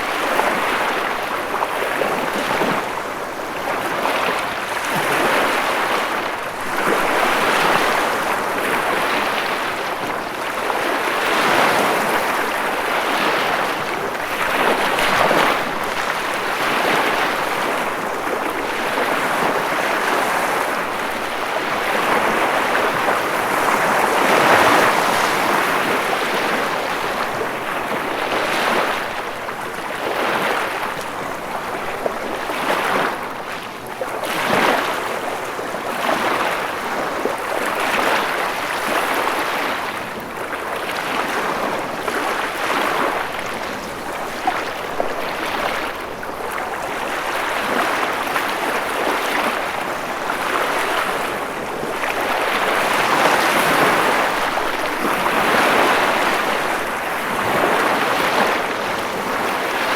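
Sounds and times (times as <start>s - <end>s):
ocean waves washing: 0.0s - 59.9s.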